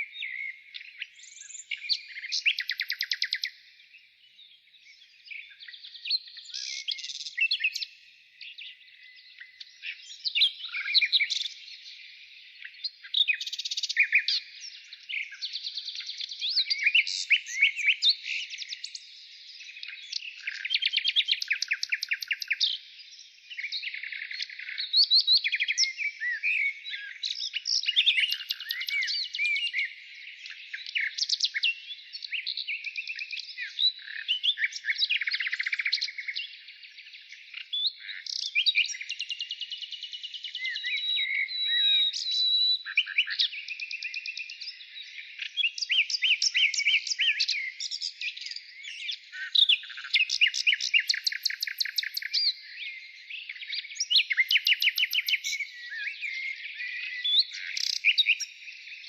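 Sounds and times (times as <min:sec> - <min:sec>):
chorus of birds chirping: 0:00.0 - 0:59.0.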